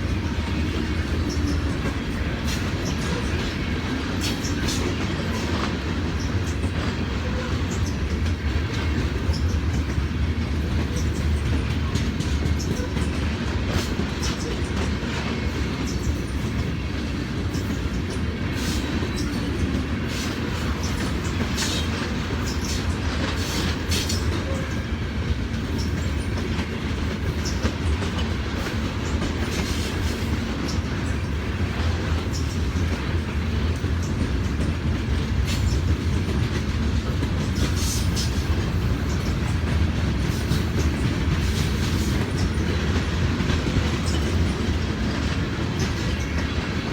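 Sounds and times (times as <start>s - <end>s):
train wheels clacking over rails: 0.0s - 46.9s.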